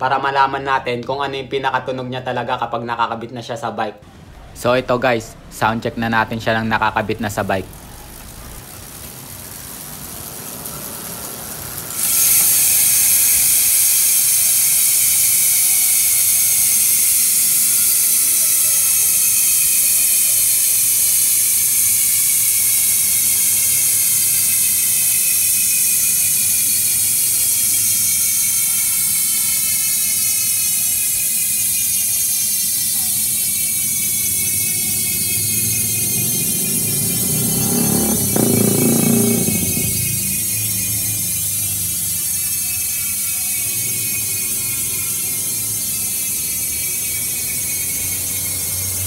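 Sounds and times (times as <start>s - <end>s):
bike hub ratchet buzzing: 0.0s - 49.0s.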